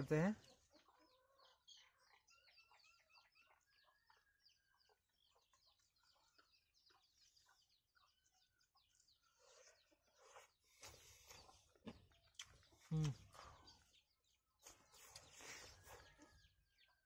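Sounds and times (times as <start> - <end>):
faint rapid bird chirping: 0.0 - 17.0.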